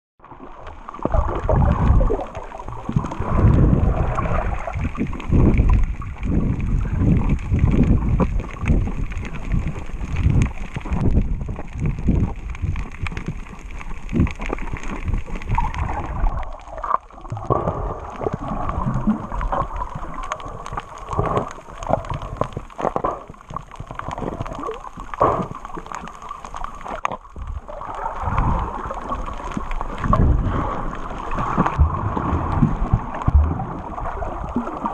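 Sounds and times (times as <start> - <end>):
water sloshing and gurgling: 0.2 - 34.9.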